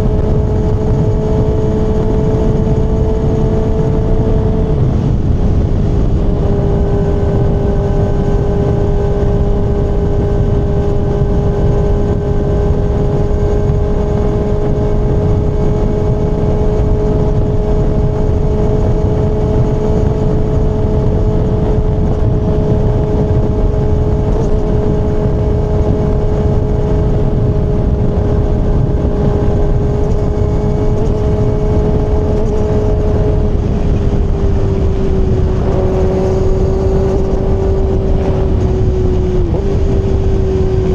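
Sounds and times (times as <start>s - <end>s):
heavy wind: 0.0s - 40.9s
motorcycle engine at high revs: 0.0s - 40.9s
road rumble: 0.0s - 40.9s.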